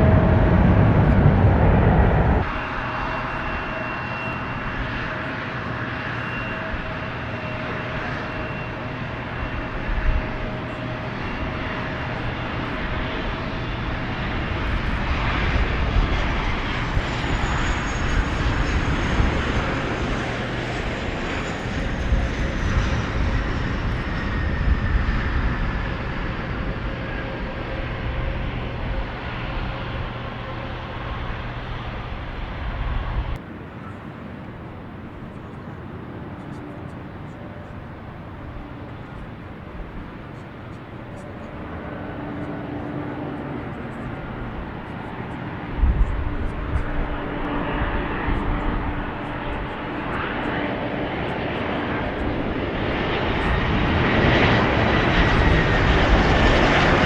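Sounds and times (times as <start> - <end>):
airliner engines passing: 0.0 - 57.0.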